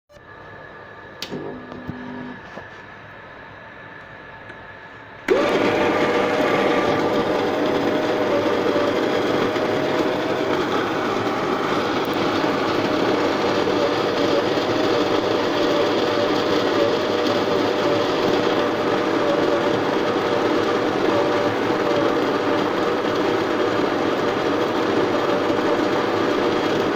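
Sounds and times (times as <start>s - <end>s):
espresso machine pump buzzing: 1.2s - 2.7s, 5.3s - 26.9s.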